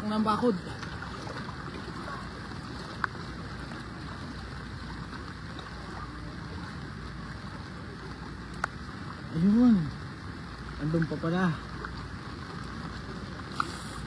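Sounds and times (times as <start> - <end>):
floodwater rushing and sloshing: 0.0 - 14.0.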